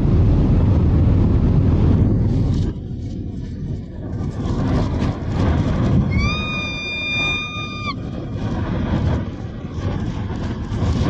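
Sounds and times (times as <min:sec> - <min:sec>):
rumble of rushing water and debris: 0:00.0 - 0:11.0.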